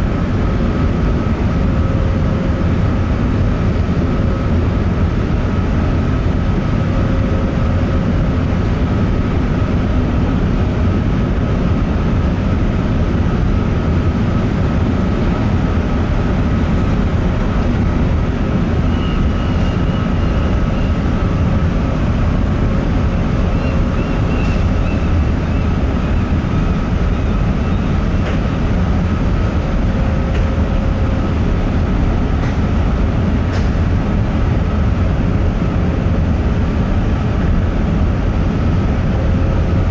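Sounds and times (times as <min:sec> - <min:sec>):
ferry engines rumbling: 0:00.0 - 0:39.9.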